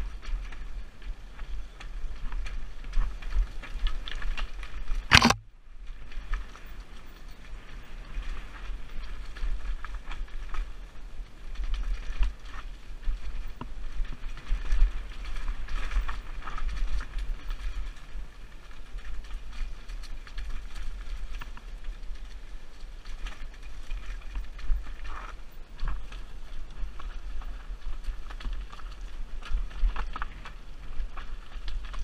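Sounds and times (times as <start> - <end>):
mountain bike rattling over rocks: 0.0 - 32.0.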